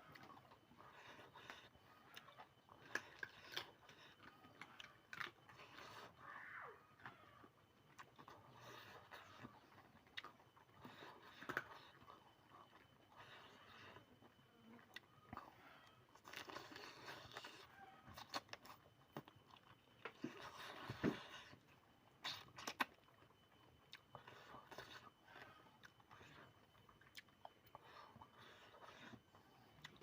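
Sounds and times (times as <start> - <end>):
person chewing and crunching: 0.0 - 30.0.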